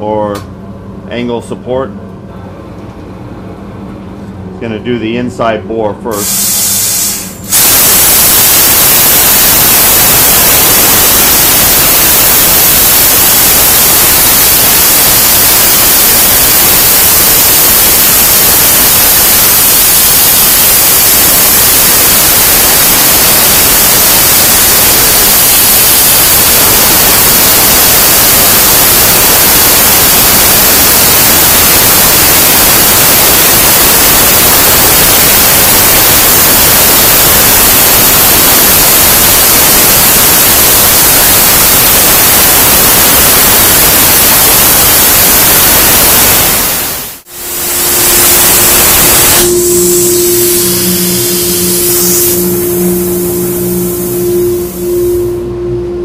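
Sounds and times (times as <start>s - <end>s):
hiss of plasma torch cutting: 6.1s - 55.0s.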